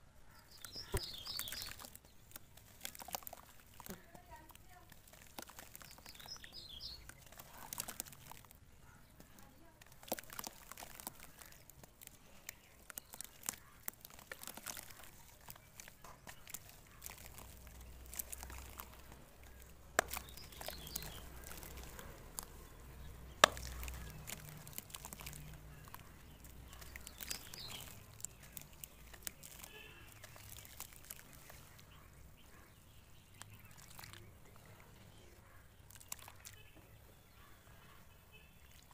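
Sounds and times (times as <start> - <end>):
dry dirt crumbling and snapping: 0.3 - 38.9
small splashes in water: 0.4 - 8.6, 9.2 - 36.8.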